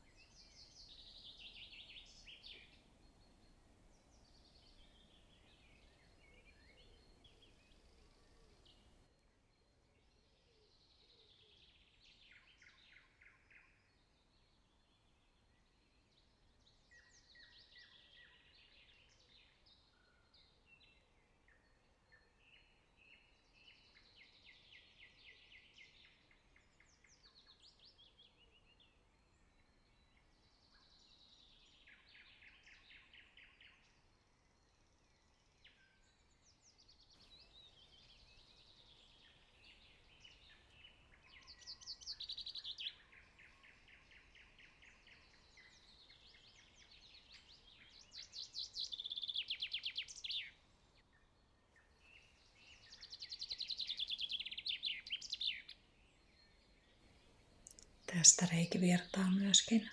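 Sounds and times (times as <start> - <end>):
faint songbird song: 0.0 - 59.9.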